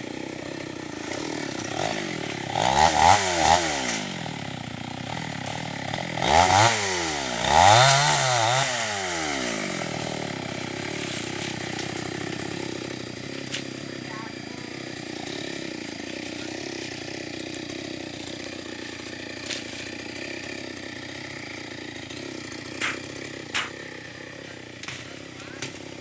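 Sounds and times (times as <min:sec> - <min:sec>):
chainsaw engine idling and revving: 0:00.0 - 0:26.0.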